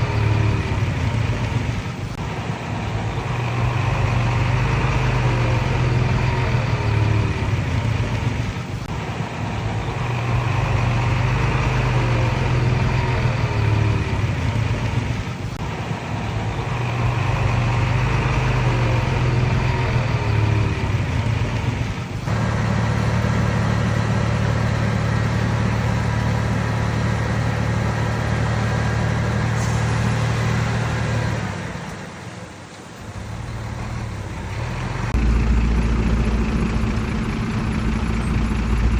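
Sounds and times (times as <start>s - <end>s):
bulldozer diesel engine running hard: 0.0s - 38.9s.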